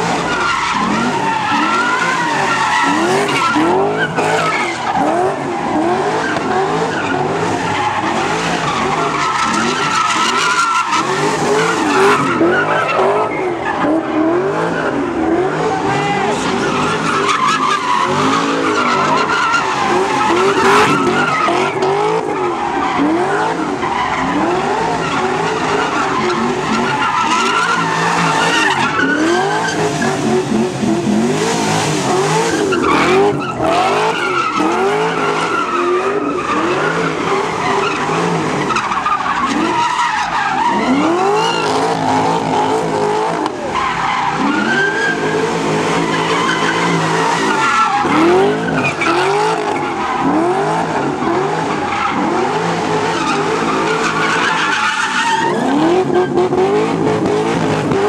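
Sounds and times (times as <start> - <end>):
car engines revving: 0.0 - 58.0
tyres screeching on pavement: 0.0 - 58.0.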